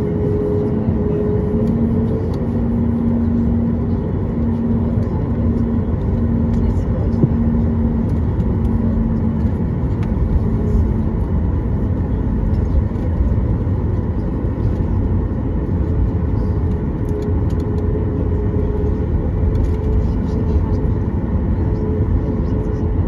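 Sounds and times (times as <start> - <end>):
jet engine rumble in cabin: 0.0 - 23.0.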